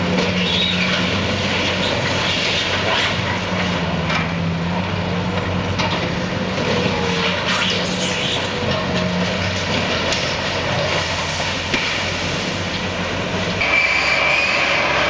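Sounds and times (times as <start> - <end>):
diesel loader engines running: 0.0 - 15.0.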